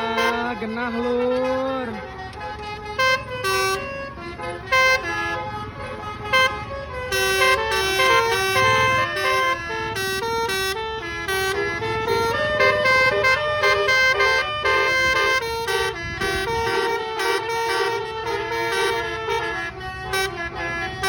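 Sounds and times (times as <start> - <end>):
musical air horn melody: 0.0 - 21.0.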